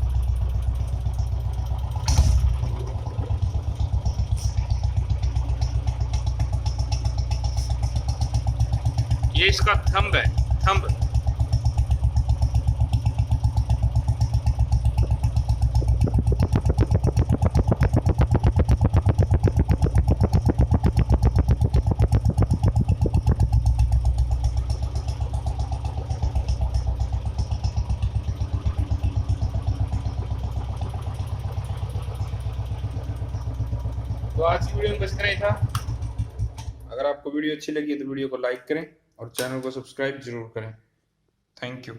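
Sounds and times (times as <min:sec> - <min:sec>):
motorcycle engine exhaust thumping: 0:00.0 - 0:37.0.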